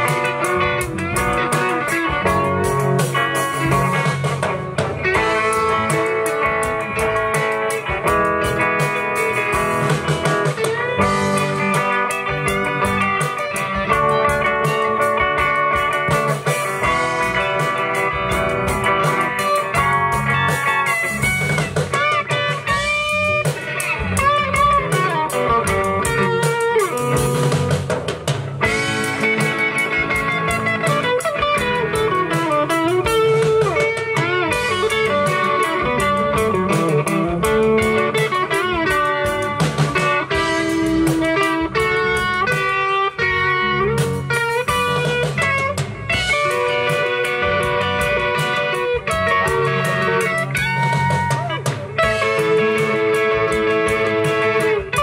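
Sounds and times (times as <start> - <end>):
bass guitar: 0.0 - 55.0
drum kit: 0.0 - 55.0
electric guitar lead: 0.0 - 55.0
rhythm guitar: 0.0 - 55.0.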